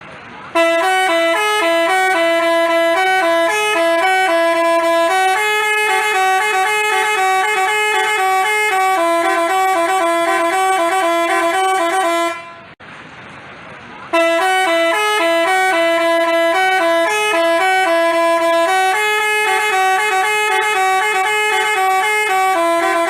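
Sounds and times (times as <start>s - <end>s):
multi-tone bus horn melody: 0.4s - 12.8s, 14.1s - 23.0s.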